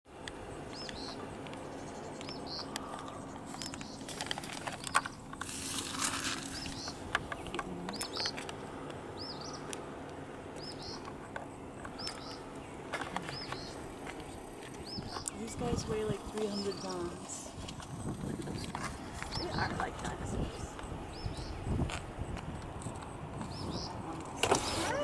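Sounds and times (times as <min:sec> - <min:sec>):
small bird chirping: 0:00.5 - 0:05.6, 0:06.2 - 0:08.5, 0:09.2 - 0:09.8, 0:10.5 - 0:24.2.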